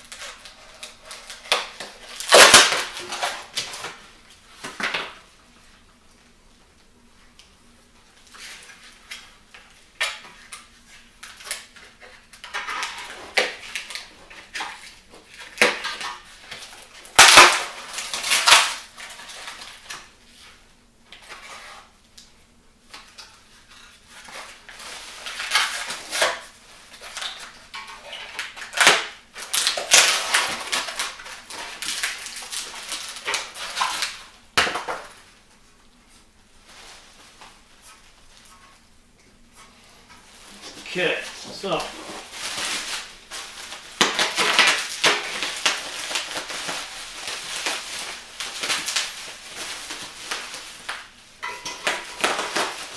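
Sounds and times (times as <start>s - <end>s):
plastic wrap crinkling and tearing: 0.0s - 4.8s, 8.2s - 20.5s, 22.9s - 35.3s, 40.0s - 52.9s.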